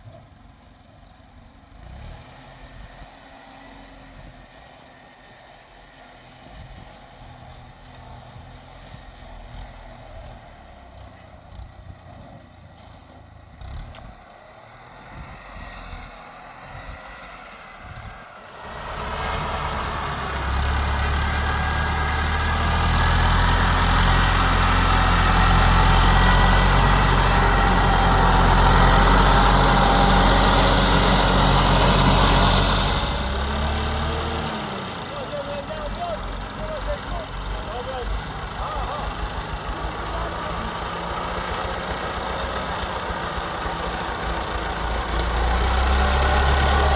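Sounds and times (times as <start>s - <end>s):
engine humming: 0.0s - 46.9s.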